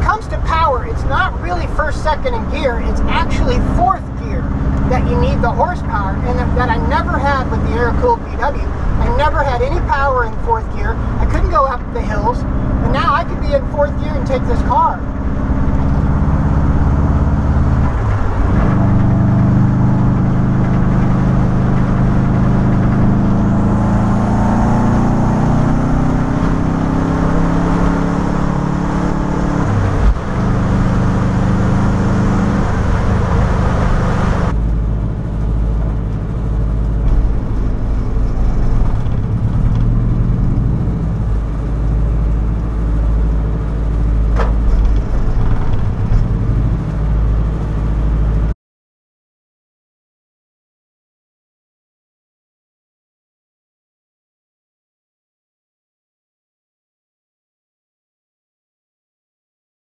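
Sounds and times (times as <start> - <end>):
car engine pulling under load: 0.0 - 48.5.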